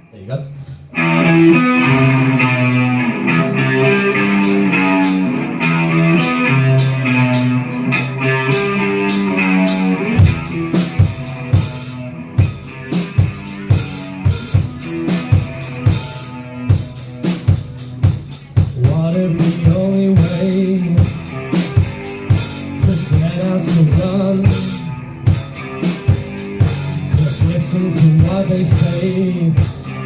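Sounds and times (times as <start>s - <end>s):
electric guitar chords: 0.9s - 30.0s
drum kit beat: 3.2s - 30.0s.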